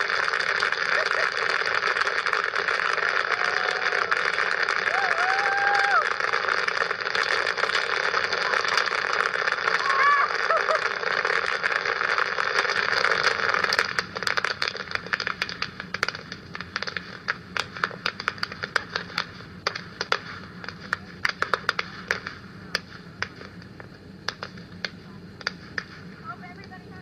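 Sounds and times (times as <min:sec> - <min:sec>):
firework crackling pops: 0:00.0 - 0:27.0
firework hissing: 0:00.0 - 0:27.0.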